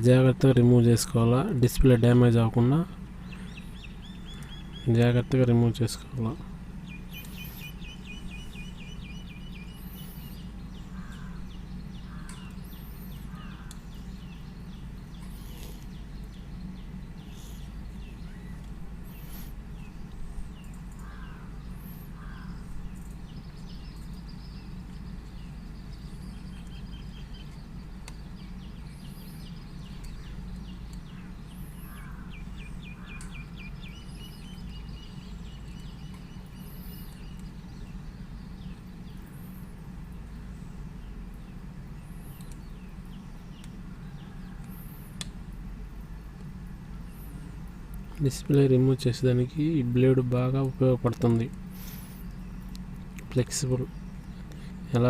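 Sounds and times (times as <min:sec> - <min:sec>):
birds chirping and calling: 0:00.0 - 0:45.2, 0:46.3 - 0:55.0
steady low hum: 0:00.0 - 0:55.0.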